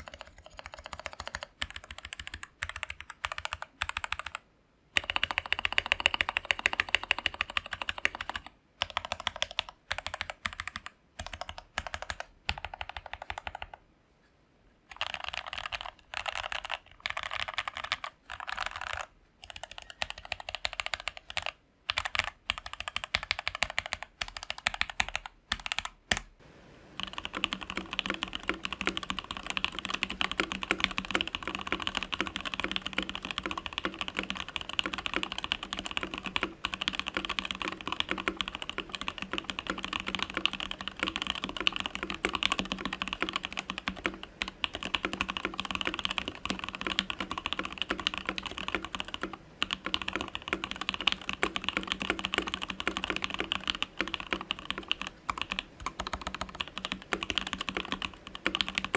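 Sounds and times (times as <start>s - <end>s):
mechanical keyboard typing: 0.0s - 4.4s, 5.0s - 13.8s, 14.9s - 26.3s, 27.0s - 58.9s.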